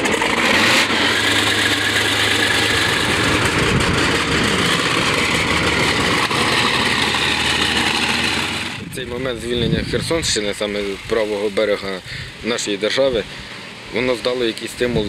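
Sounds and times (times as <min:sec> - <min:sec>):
tank engine idling: 0:00.0 - 0:15.0.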